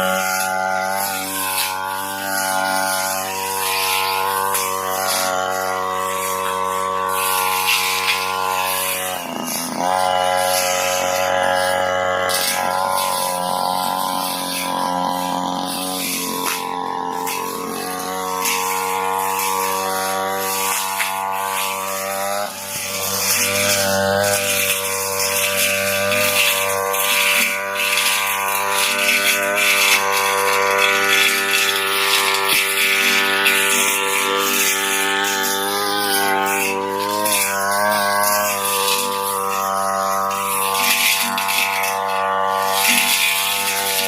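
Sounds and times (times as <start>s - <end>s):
brush cutter engine cutting grass: 0.0s - 44.0s.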